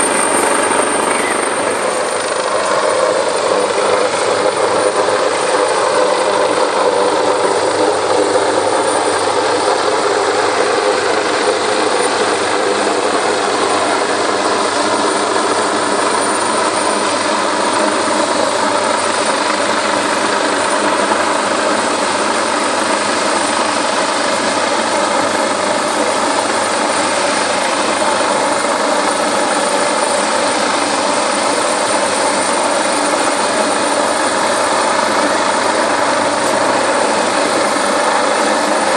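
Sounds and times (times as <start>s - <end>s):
helicopter hovering: 0.0s - 38.9s.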